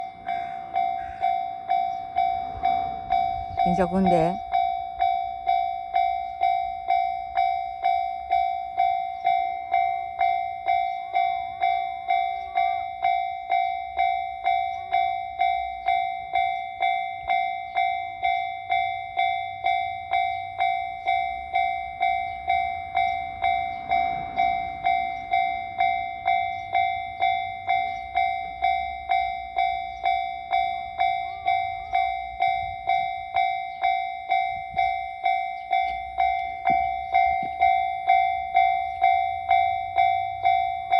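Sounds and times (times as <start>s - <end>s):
level crossing warning bell: 0.0s - 40.9s.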